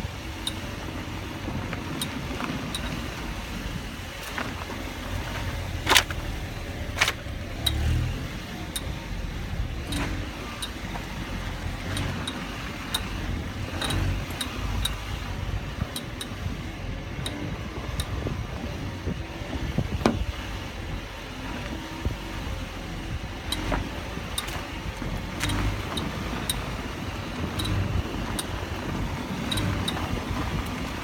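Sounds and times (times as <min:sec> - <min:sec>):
car engine revving: 0:00.0 - 0:31.0
light engine clicks: 0:00.3 - 0:18.6, 0:23.1 - 0:31.0.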